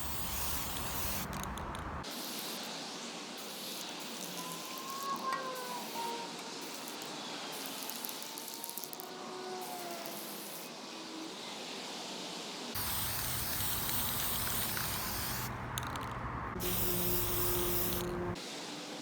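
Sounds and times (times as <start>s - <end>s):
hissing spray: 0.0s - 1.4s, 2.0s - 8.8s, 9.6s - 10.8s, 11.4s - 15.5s, 16.6s - 18.6s.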